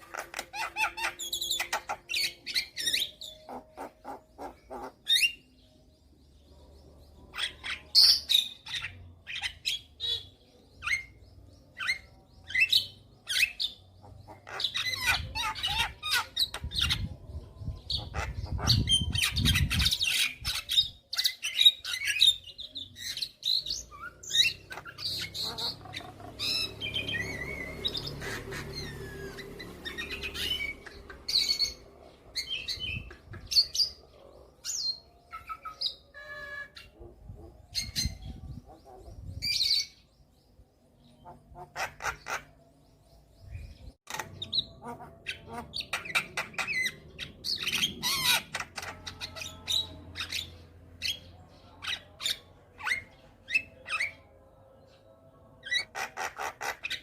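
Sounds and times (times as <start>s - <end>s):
bird chirping and squawking: 0.0s - 5.8s, 6.6s - 40.0s, 41.1s - 54.3s, 55.6s - 57.0s.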